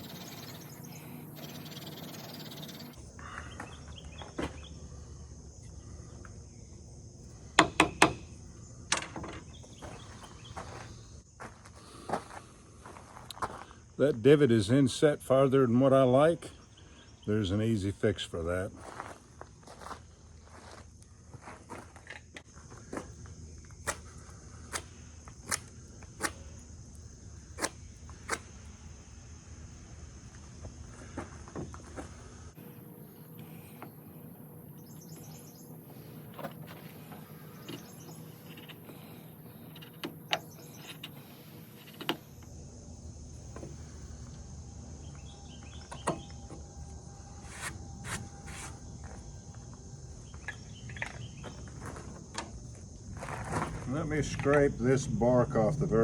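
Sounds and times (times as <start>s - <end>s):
faint insect drone: 0.0s - 56.0s.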